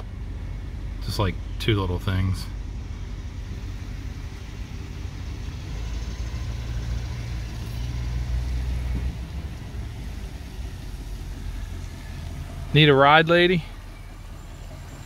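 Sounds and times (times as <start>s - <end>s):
pickup truck engine humming: 0.0s - 15.0s.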